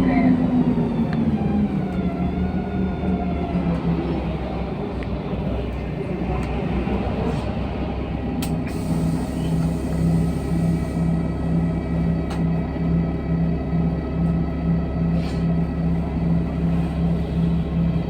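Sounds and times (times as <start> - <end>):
bus engine drone: 0.0 - 18.0
road rumble: 0.0 - 18.0.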